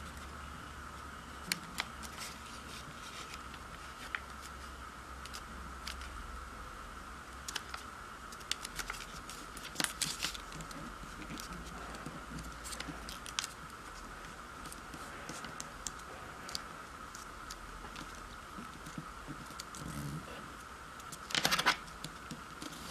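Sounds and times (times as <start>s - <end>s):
faint hum: 0.0s - 22.9s
paper crackling: 1.4s - 6.1s, 7.4s - 20.0s, 21.0s - 22.9s.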